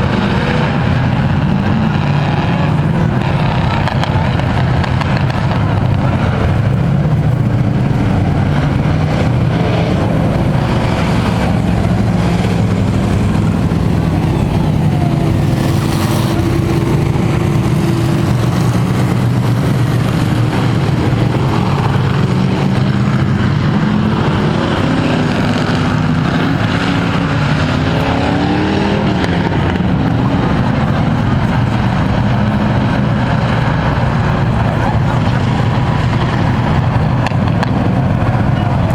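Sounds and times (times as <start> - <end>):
race truck engines passing: 0.0 - 38.9.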